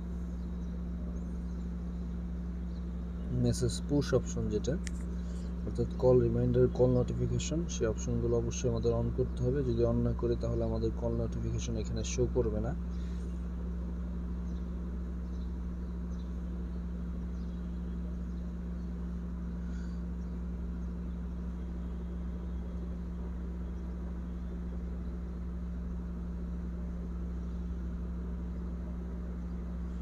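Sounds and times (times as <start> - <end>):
low room hum with hiss: 0.0 - 30.0.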